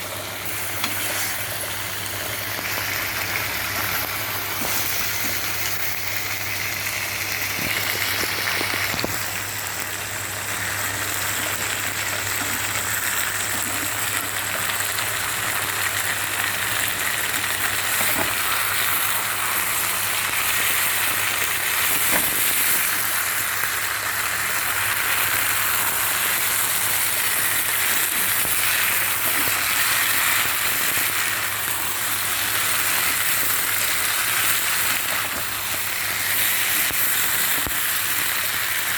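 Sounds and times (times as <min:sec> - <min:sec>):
meatballs sizzling in a pan: 0:00.0 - 0:38.9.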